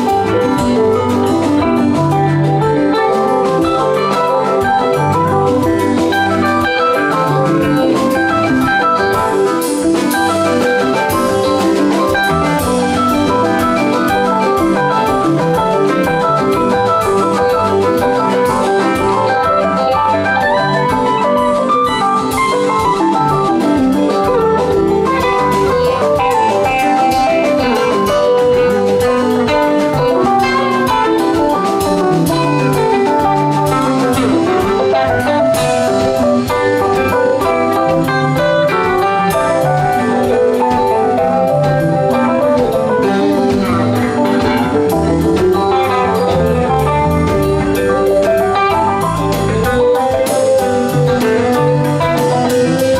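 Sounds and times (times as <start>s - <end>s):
bass guitar: 0.0s - 52.9s
drum kit: 0.0s - 52.9s
electric guitar melody: 0.0s - 52.9s
keyboards: 0.0s - 52.9s.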